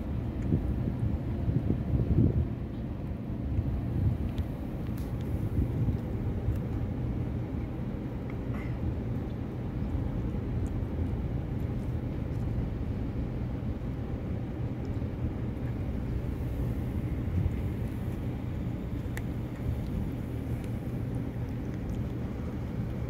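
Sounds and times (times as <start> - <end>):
kitten chewing clicks: 0.0 - 1.6, 2.6 - 23.0
low rumble: 0.0 - 23.0.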